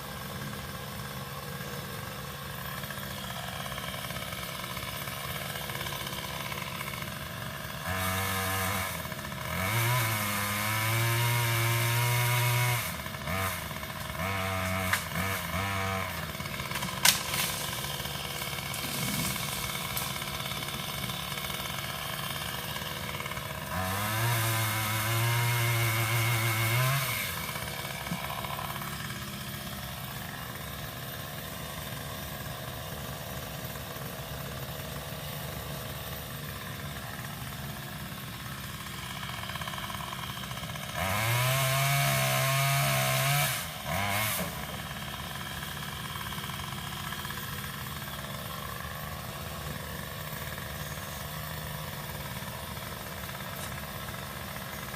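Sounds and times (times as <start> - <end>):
engine running steadily: 0.0 - 41.4, 43.0 - 54.9
pole saw revving: 0.0 - 54.9.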